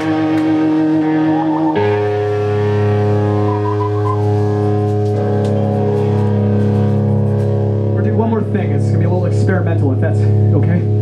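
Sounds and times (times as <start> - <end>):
electric guitars and bass chords: 0.0 - 11.0
lead guitar notes: 0.0 - 11.0.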